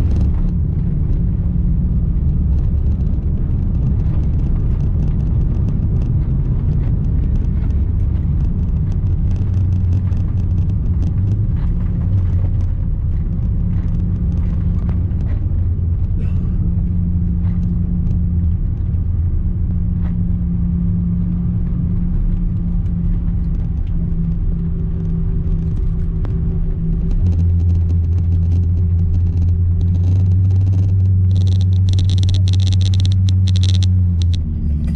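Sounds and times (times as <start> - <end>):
airplane cabin low rumble: 0.0 - 34.9
light rattles and clicks: 0.0 - 34.9.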